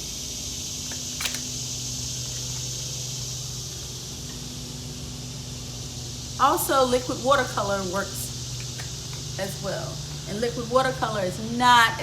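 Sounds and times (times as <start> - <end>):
insects chorus: 0.0 - 12.0
low steady hum: 0.0 - 12.0.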